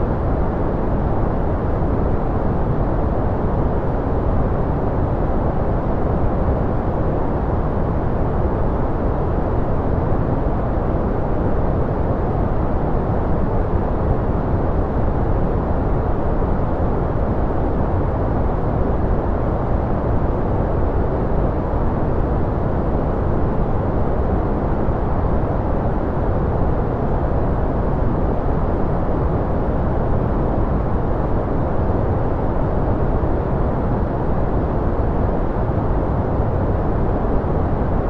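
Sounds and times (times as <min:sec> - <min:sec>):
deep white noise: 0:00.0 - 0:38.0.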